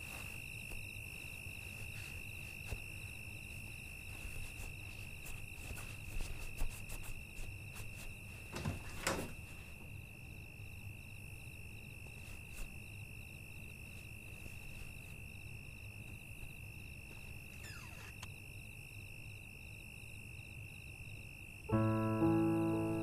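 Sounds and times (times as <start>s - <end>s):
crickets trilling and chirping: 0.0s - 23.0s.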